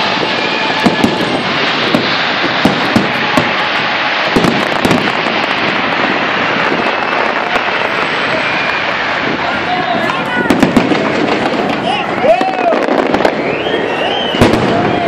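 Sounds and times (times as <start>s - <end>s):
continuous dense hiss: 0.0s - 15.0s
fireworks bangs: 0.0s - 15.0s.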